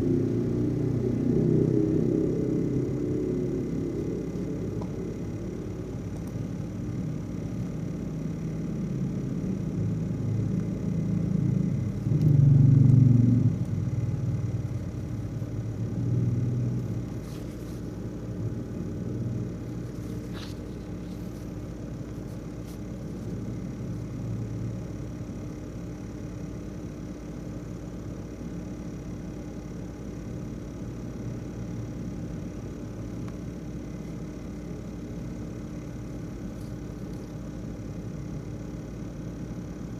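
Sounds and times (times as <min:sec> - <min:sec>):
laptop fan buzzing and rattling: 0:00.0 - 0:39.9.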